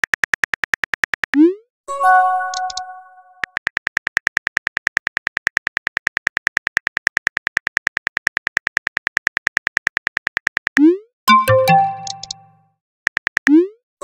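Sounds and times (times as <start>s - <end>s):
keyboard typing clicks: 2.4s - 13.7s.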